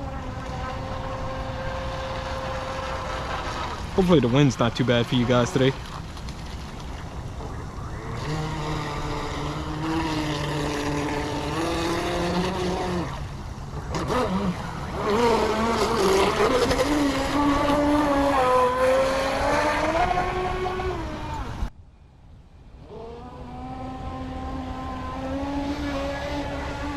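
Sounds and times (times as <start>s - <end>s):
electric boat motor whining: 0.0s - 21.7s, 22.8s - 26.9s.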